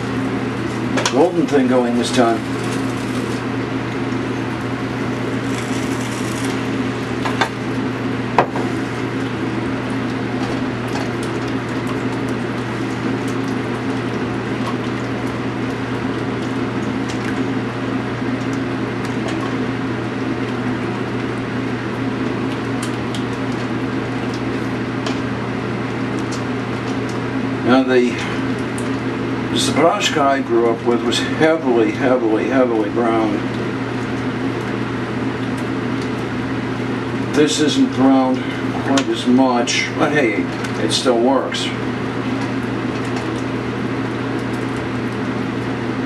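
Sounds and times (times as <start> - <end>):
kitchen fan humming: 0.0 - 46.0.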